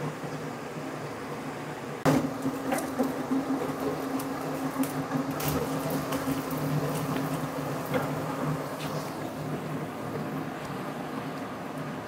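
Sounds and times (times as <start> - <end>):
range hood fan hum: 0.0 - 12.0.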